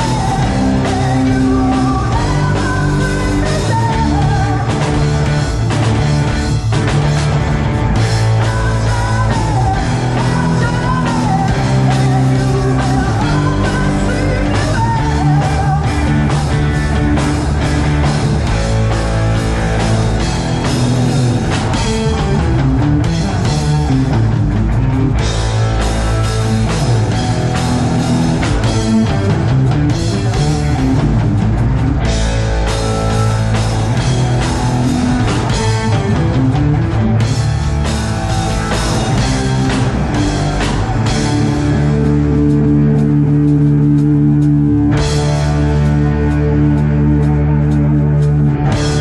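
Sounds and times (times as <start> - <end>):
rock band playing live: 0.0 - 49.0.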